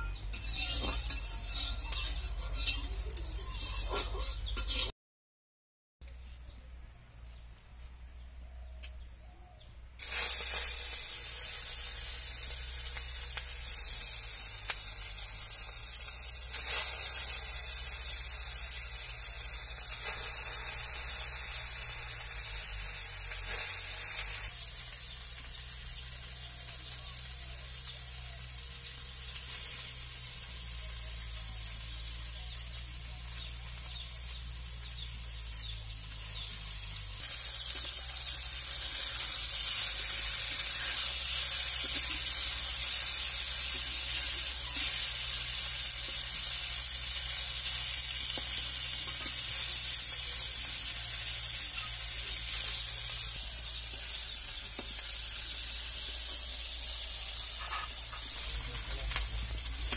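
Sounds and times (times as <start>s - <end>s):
fish sizzling in hot oil: 0.0s - 3.8s, 10.0s - 59.9s.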